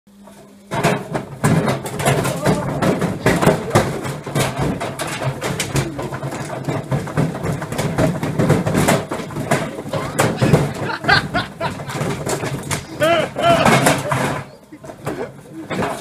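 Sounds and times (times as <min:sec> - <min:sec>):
washing machine hum: 0:00.1 - 0:16.0
loud knocks and clatter: 0:00.3 - 0:16.0.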